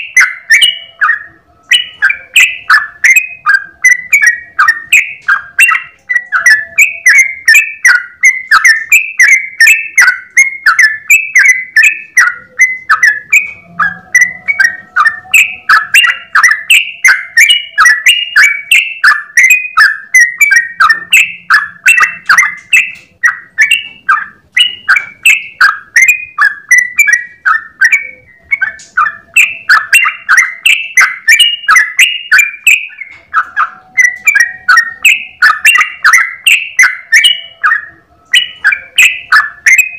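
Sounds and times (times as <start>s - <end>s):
bulbul singing bubbly notes: 0.0s - 39.9s.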